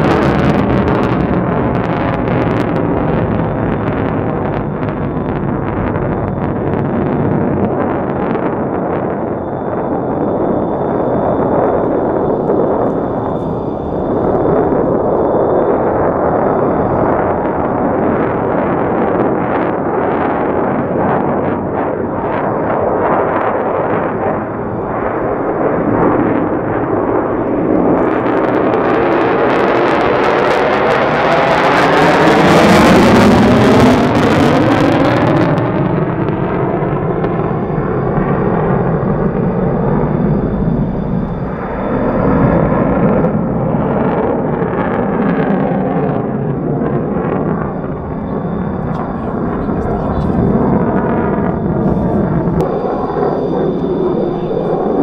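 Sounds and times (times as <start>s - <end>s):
jet afterburner rumble crackling: 0.0s - 55.0s.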